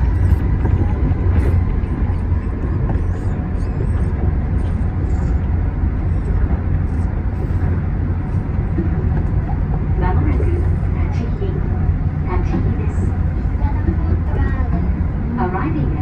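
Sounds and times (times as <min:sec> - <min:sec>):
monorail train rumbling: 0:00.0 - 0:16.0.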